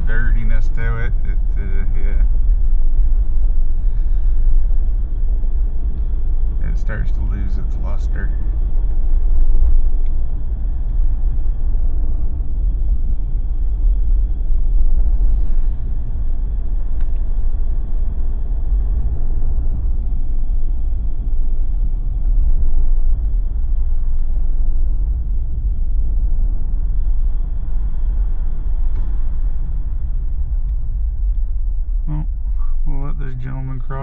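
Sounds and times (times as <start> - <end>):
car driving on slushy road: 0.0 - 34.0.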